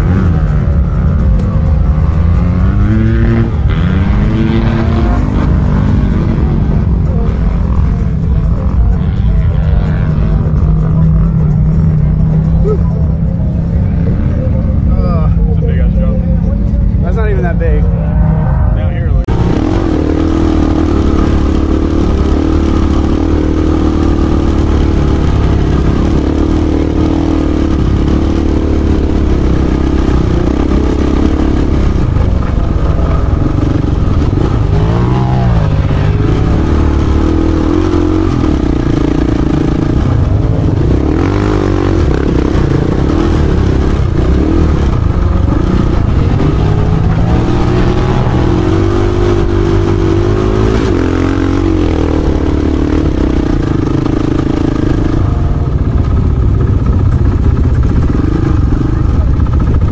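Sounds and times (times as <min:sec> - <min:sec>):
dirt bike engine revving: 0:00.0 - 0:16.4, 0:17.0 - 0:59.9.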